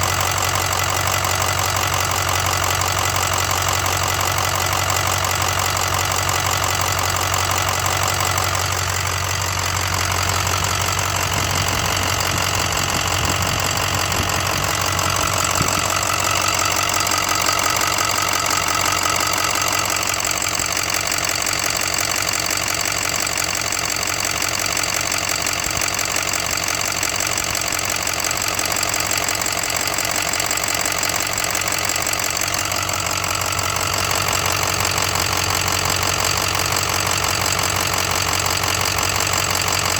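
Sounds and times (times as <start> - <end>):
diesel engine idling: 0.0 - 39.9
engine ticking knock: 0.0 - 39.9.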